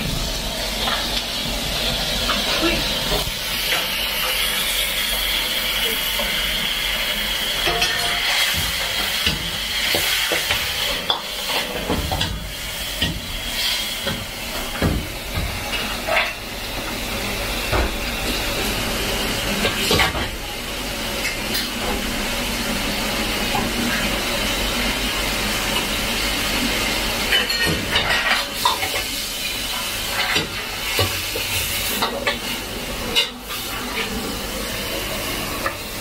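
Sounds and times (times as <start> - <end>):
vegetables sizzling in wok: 0.0 - 36.0.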